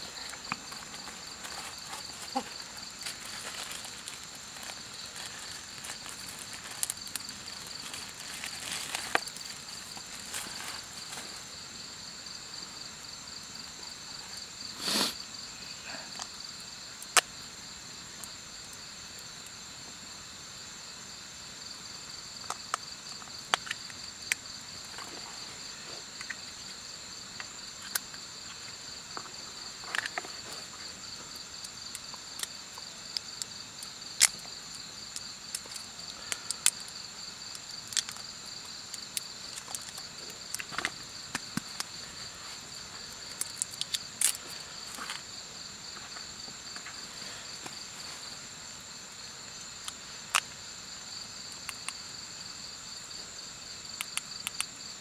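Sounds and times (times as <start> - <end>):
crickets chirping: 0.0 - 55.0
rustle: 0.0 - 55.0.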